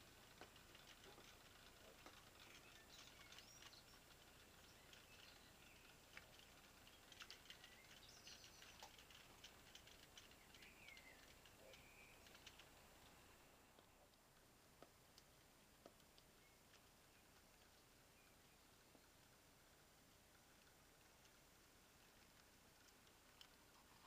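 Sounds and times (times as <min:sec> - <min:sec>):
small clicks: 0:00.0 - 0:24.0.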